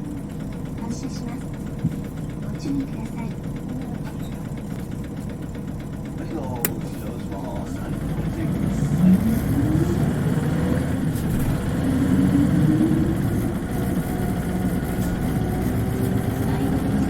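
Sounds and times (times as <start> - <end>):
bus diesel engine: 0.0 - 17.0.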